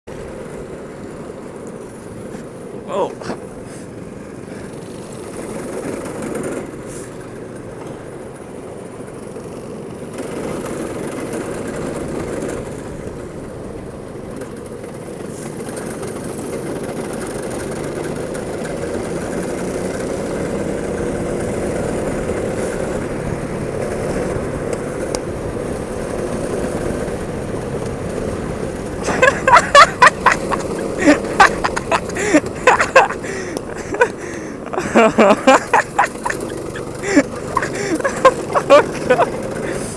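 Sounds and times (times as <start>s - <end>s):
go-kart engines droning: 0.1s - 39.9s.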